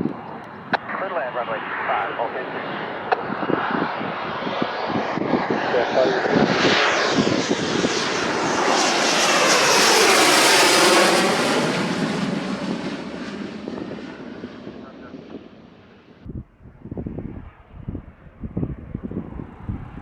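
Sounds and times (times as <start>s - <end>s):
jet passing overhead: 0.0s - 20.0s.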